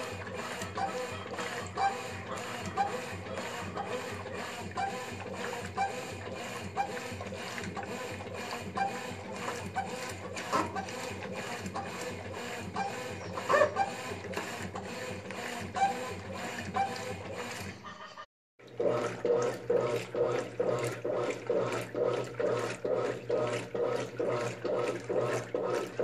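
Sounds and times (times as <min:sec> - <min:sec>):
washing machine agitating: 0:00.0 - 0:26.0.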